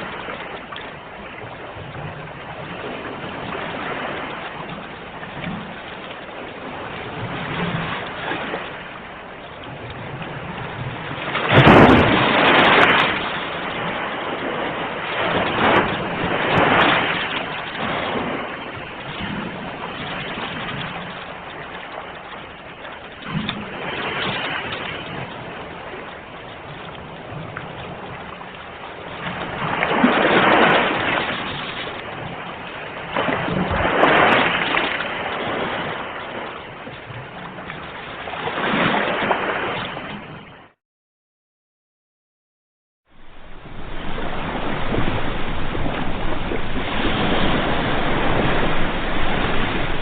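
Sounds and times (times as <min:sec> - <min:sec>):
ocean waves washing back: 0:00.0 - 0:40.8, 0:43.1 - 0:50.0.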